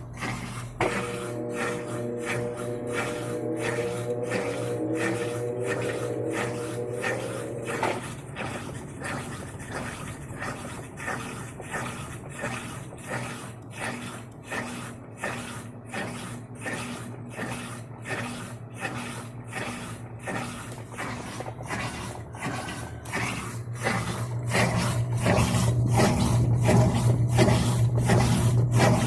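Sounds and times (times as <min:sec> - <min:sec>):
washing machine drum sloshing: 0:00.0 - 0:29.0
washing machine motor hum: 0:00.0 - 0:29.0.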